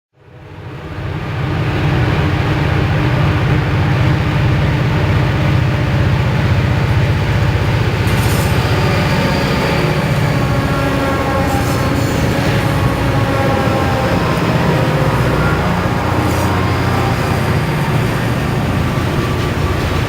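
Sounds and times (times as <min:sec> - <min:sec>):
diesel locomotive passing: 0:00.2 - 0:20.0.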